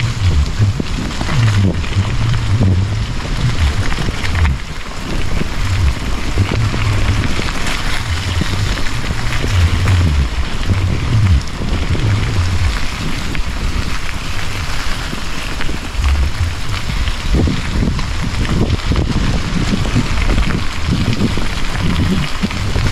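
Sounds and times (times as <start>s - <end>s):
bike tyres on dirt trail: 0.0s - 22.9s
rain hiss: 0.0s - 22.9s
wind buffeting microphone: 0.0s - 22.9s.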